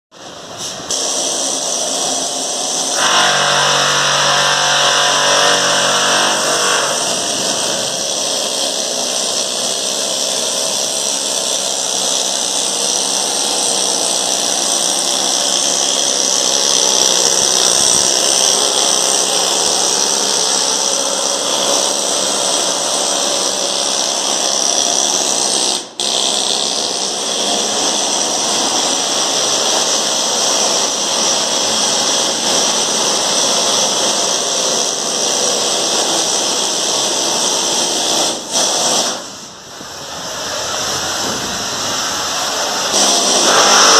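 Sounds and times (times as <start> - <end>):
loud hissing machinery: 0.2 - 43.9.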